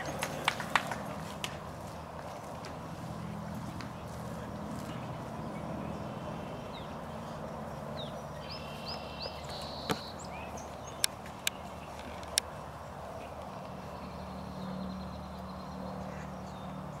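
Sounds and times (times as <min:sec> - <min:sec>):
small birds chirping: 0:01.2 - 0:17.0.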